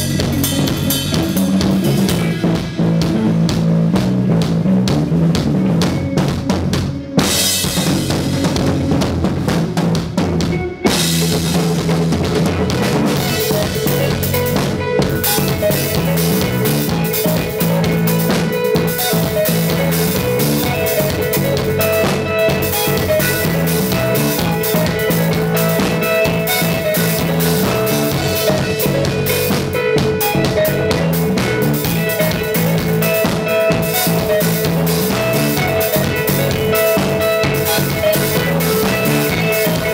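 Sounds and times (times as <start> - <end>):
heavy drum and cymbal hits: 0.0 - 39.9
live rock band playing: 0.0 - 39.9.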